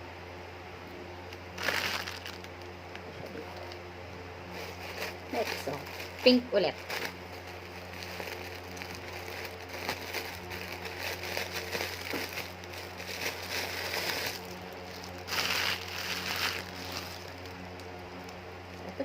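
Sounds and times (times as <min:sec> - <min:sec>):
plastic packaging crinkling: 0:01.6 - 0:02.6, 0:04.5 - 0:19.0.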